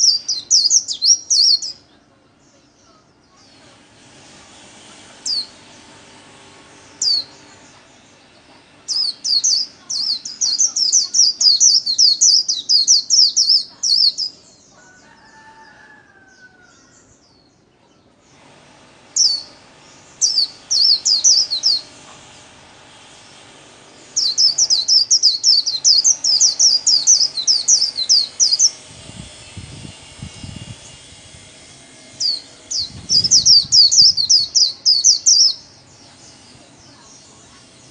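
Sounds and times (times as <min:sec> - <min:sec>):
bird twittering song: 0:00.0 - 0:03.7, 0:06.7 - 0:18.5, 0:19.1 - 0:22.0, 0:23.9 - 0:31.2, 0:32.2 - 0:37.9.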